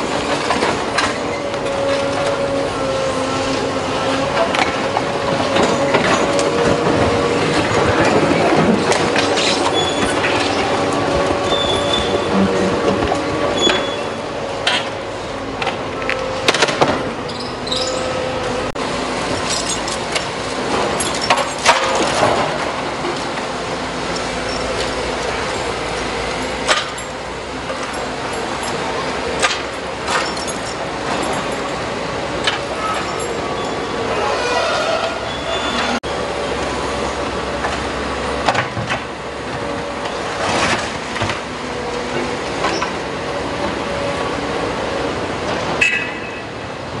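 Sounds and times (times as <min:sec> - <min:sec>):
asphalt and steel rails clanking: 0:00.0 - 0:47.0
excavator engine humming: 0:00.0 - 0:47.0
heavy diesel machinery running: 0:00.0 - 0:47.0.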